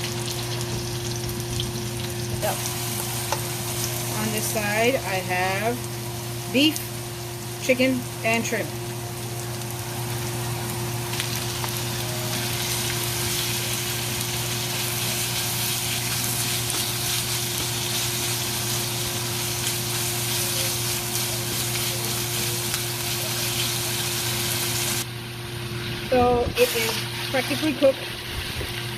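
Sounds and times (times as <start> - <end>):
food sizzling in oil: 0.0 - 28.9.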